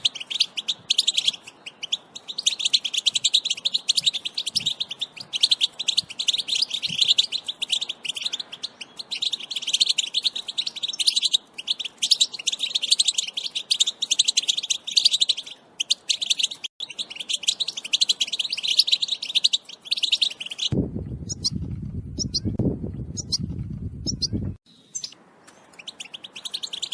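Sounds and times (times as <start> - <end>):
goldfinch twittering: 0.0 - 21.5, 23.2 - 26.9.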